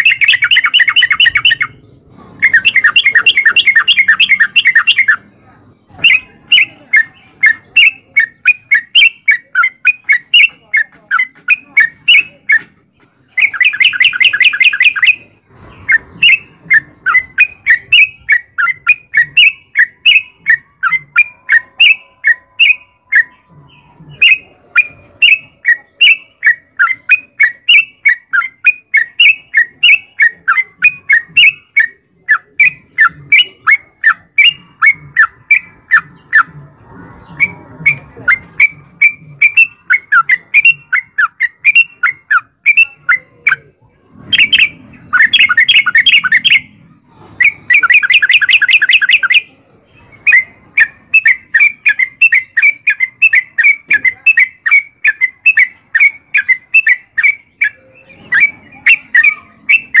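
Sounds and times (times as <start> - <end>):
bulbul chattering song: 0.0 - 60.0.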